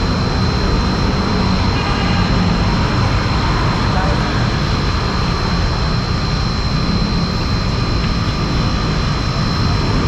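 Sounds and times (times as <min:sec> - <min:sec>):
street traffic roar: 0:00.0 - 0:10.0
thin high steady tone: 0:00.0 - 0:10.0.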